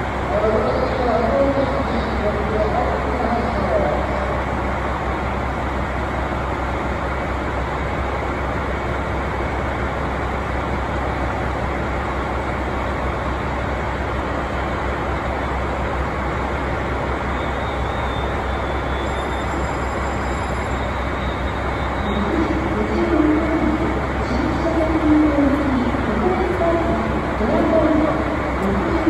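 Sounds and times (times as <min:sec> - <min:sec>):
diesel train engine idling: 0:00.0 - 0:29.0
station ambience: 0:00.0 - 0:29.0.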